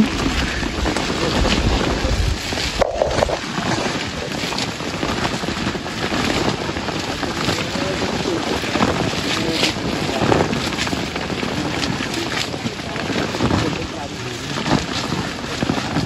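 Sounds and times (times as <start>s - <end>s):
leaves and branches rustling: 0.0s - 16.0s
small clicks and pattering: 0.0s - 16.0s
wind noise on microphone: 0.0s - 16.0s.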